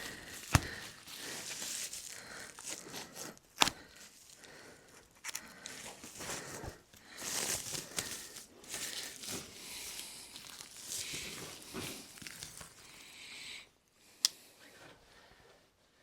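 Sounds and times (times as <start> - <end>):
rustling and crinkling: 0.0 - 13.1.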